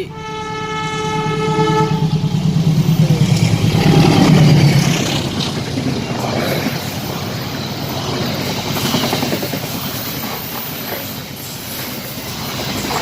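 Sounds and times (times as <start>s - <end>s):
train wheels clattering on rails: 1.9s - 13.0s.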